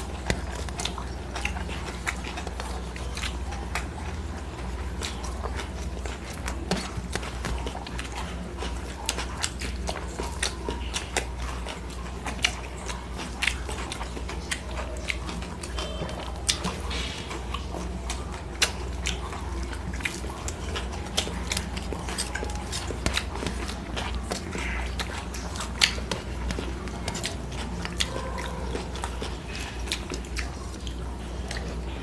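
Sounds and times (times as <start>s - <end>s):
fingers mixing food on steel plates: 0.0s - 32.0s
steady low hum: 0.0s - 32.0s
wet chewing and lip smacks: 0.0s - 32.0s.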